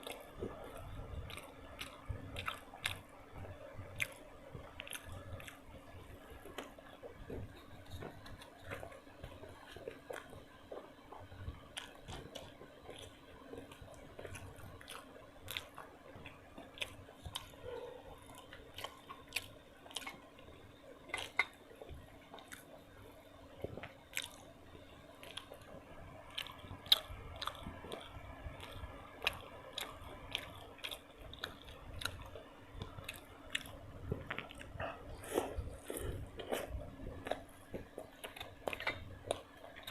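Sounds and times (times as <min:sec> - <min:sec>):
food crunching: 0:00.0 - 0:22.9, 0:23.6 - 0:39.9
person chewing food: 0:00.0 - 0:39.9.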